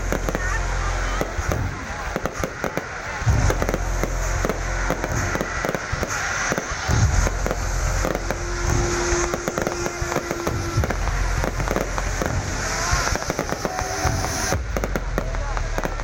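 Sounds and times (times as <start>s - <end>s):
fireworks booms: 0.0s - 16.0s
fireworks cracks and pops: 0.0s - 16.0s
steady tone: 0.0s - 16.0s.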